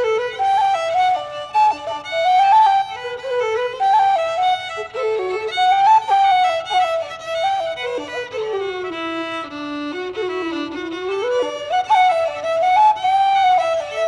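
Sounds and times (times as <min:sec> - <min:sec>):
fiddle: 0:00.0 - 0:14.0
wooden flute: 0:00.0 - 0:14.0.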